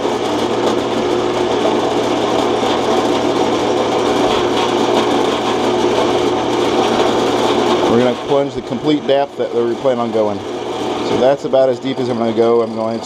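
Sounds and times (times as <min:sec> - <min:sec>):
drill press running: 0:00.0 - 0:13.0.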